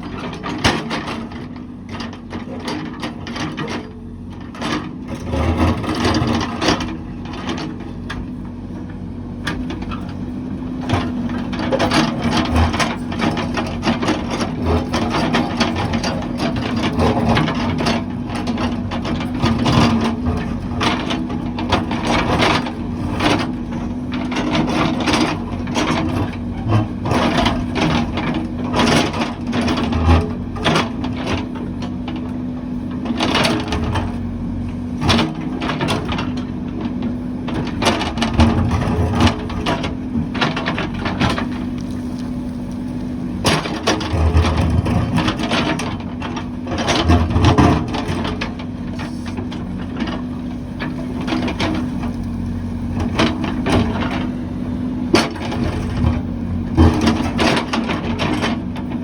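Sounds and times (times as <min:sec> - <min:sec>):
construction machine engine: 0:00.0 - 0:59.0.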